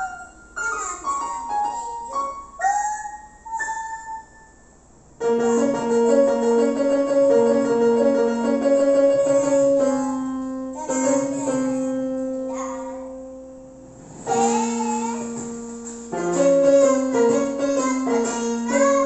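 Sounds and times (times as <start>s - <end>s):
electronic keyboard melody: 0.0s - 19.0s.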